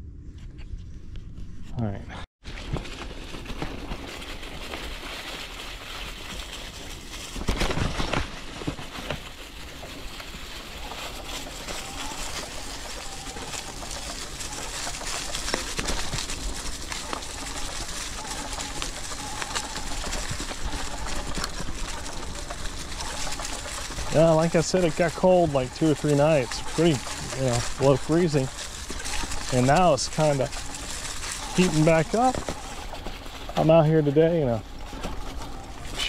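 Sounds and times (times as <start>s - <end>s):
bike tyres rolling on trail: 2.4s - 36.0s.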